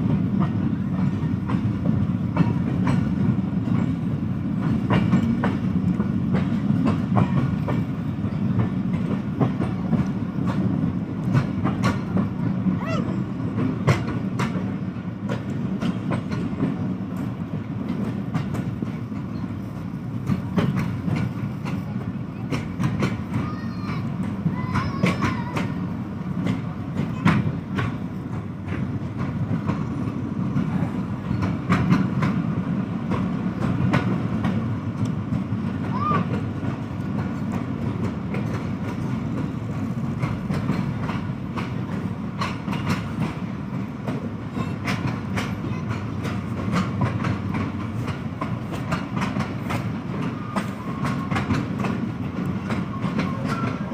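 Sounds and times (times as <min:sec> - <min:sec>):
train rumbling on rails: 0:00.0 - 0:53.9
wheels clattering over rail joints: 0:00.0 - 0:53.9.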